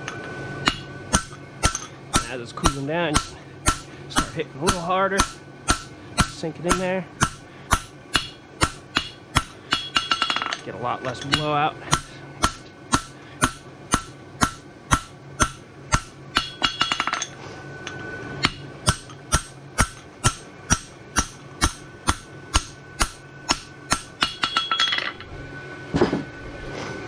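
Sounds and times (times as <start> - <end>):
hammer ringing on horseshoe: 0.0 - 25.2.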